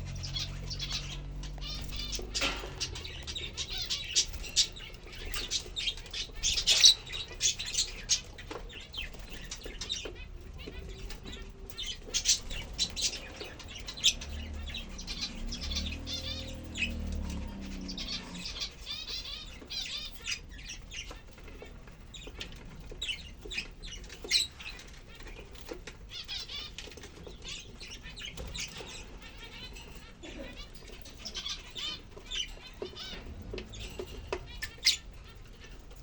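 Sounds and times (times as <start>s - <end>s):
lovebirds chirping: 0.0s - 36.0s
wings flapping and rustling: 0.0s - 36.0s.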